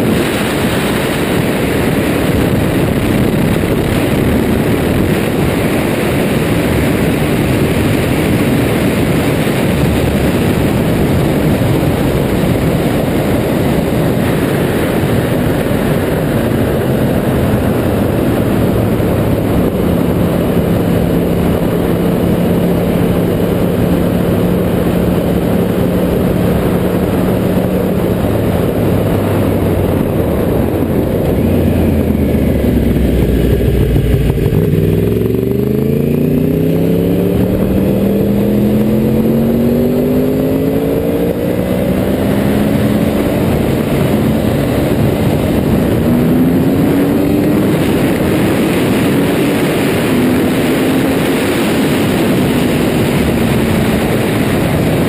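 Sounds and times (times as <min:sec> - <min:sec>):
motorcycle engine cruising: 0:00.0 - 0:55.0
wind rush: 0:00.0 - 0:55.0.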